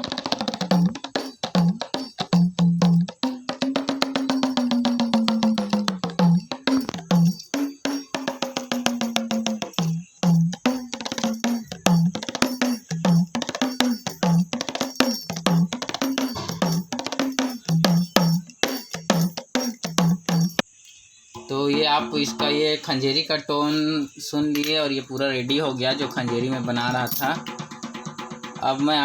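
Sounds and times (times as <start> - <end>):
frame drum with jingles: 0.0 - 20.7, 21.3 - 29.0.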